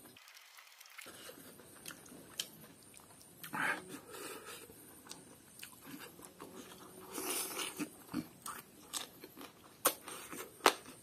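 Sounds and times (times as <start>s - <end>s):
wet chewing and crunching: 0.9s - 3.9s, 4.9s - 11.0s.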